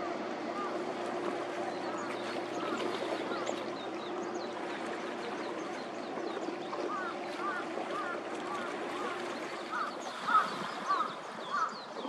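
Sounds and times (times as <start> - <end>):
low hum: 0.0 - 12.0
wash of noise: 0.0 - 12.0
birds chirping: 1.4 - 12.0.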